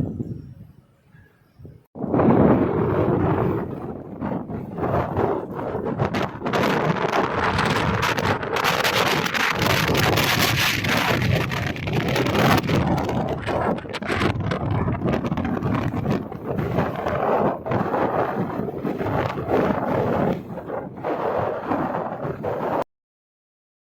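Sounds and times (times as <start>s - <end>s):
wind buffeting microphone: 0.0s - 22.8s
heavy wind gusting: 0.0s - 22.9s.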